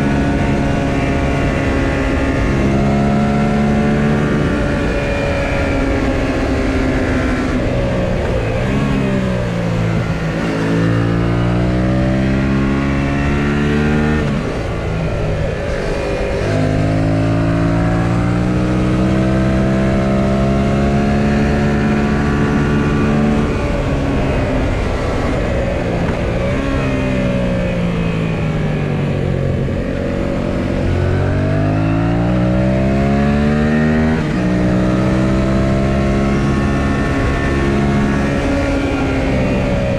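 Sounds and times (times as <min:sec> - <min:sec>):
motorcycle engine while riding: 0:00.0 - 0:39.9
wind noise: 0:00.0 - 0:39.9.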